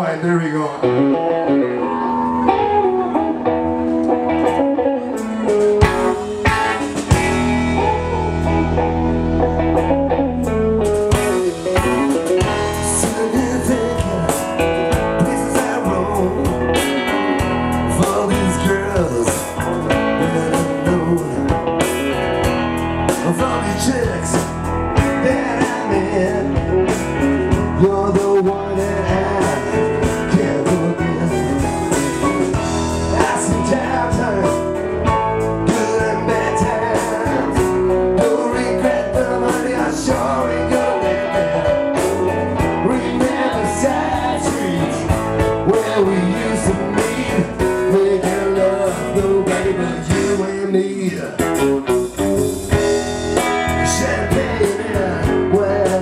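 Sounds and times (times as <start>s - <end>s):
live rock band playing blues: 0.0s - 56.0s
electric guitar riff: 0.5s - 56.0s.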